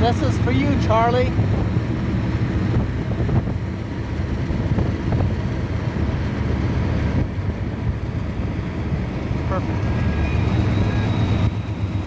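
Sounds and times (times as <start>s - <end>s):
car road rumble: 0.0s - 12.0s
wind buffeting microphone: 0.0s - 12.0s.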